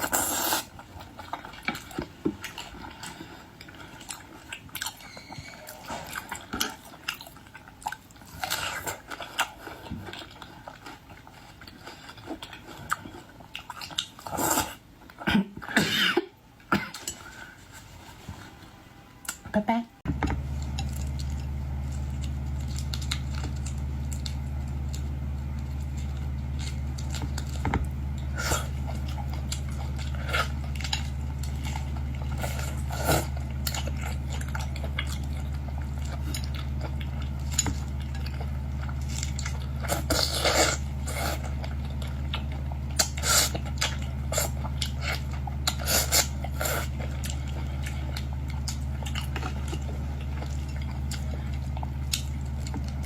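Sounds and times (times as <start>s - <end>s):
person chewing seafood: 0.0s - 17.9s, 20.4s - 53.0s
steady low hum: 0.0s - 53.0s.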